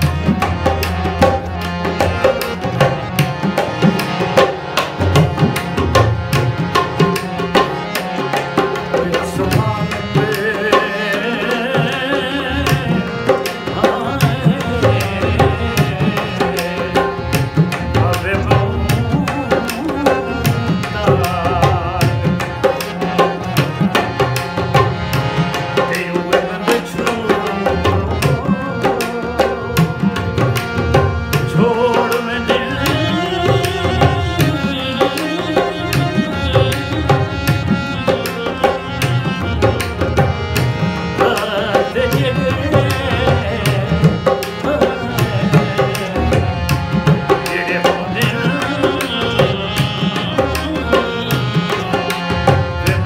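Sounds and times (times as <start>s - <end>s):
tabla rhythm: 0.0s - 53.0s
man singing ornamented melody: 8.5s - 53.0s.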